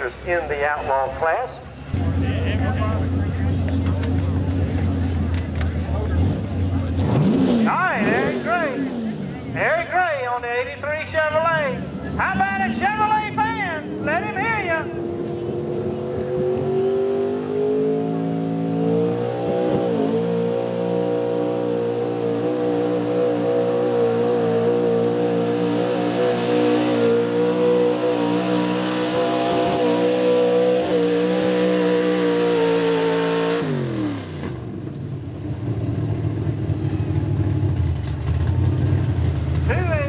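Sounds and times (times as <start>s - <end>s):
pulling truck engine revving: 0.0s - 40.0s.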